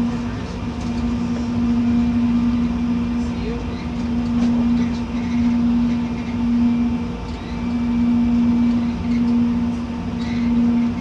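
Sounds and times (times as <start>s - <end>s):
low hum: 0.0s - 11.0s
vehicle cab rumble: 0.0s - 11.0s.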